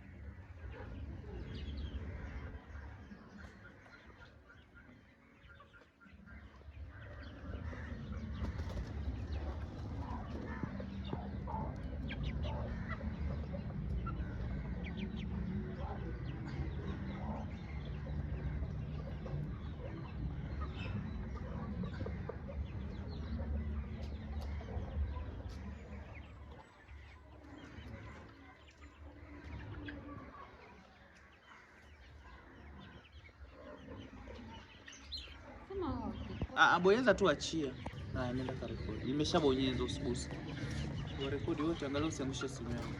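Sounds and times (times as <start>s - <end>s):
young chickens clucking and peeping: 0.0s - 42.9s.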